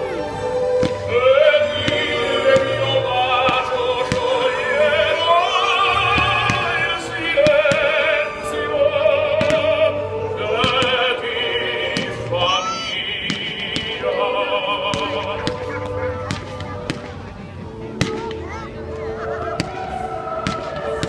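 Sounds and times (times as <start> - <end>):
operatic singing with vibrato: 0.0 - 18.2, 19.1 - 21.0
classical orchestral music: 0.0 - 21.0.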